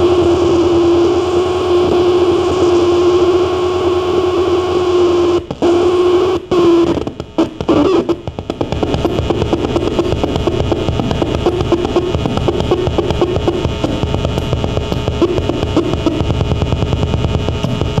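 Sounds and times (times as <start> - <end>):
distorted rapid pulsing noise: 0.0 - 18.0
loud droning tone: 0.0 - 18.0.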